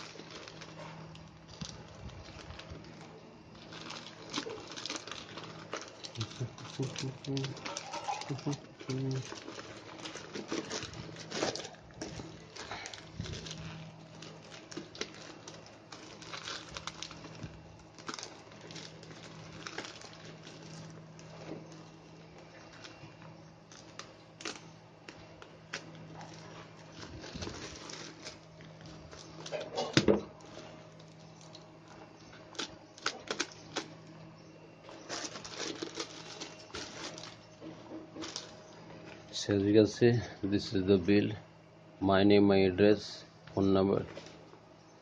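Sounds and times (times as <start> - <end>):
packaging rustling and crinkling: 0.0 - 39.7
faint steady hum: 0.0 - 45.0.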